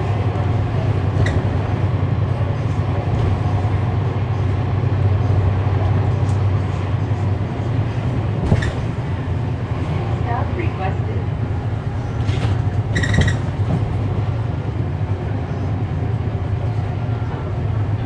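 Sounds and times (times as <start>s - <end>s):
diesel bus engine droning: 0.0s - 18.0s.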